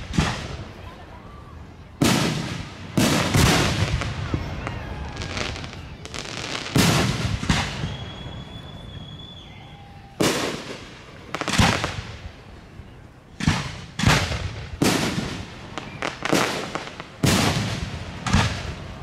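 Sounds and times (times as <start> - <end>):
firework booms: 0.0 - 0.8, 2.0 - 9.5, 10.1 - 12.4, 13.4 - 19.0.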